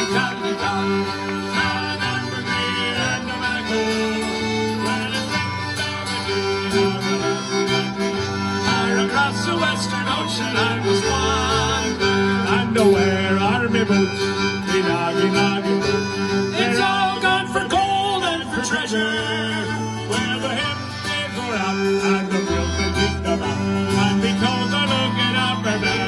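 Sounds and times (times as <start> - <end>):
sea shanty on acoustic guitar: 0.0 - 26.0
string instruments: 0.0 - 26.0.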